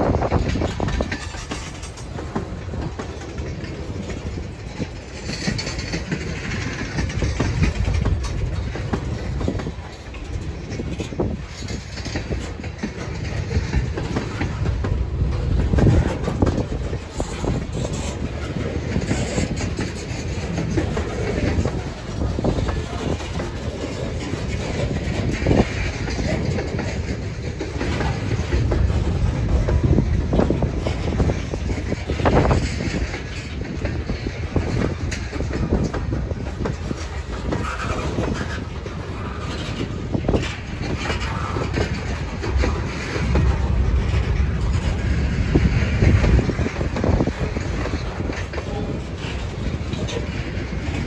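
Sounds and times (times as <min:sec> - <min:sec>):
clickety-clack over rail joints: 0:00.0 - 0:51.0
freight train wheels rumbling: 0:00.0 - 0:51.0.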